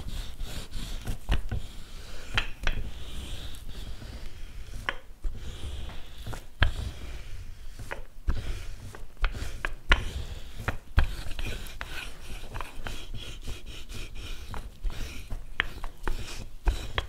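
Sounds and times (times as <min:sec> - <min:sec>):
rolling pin rubbing on dough: 0:00.0 - 0:17.0.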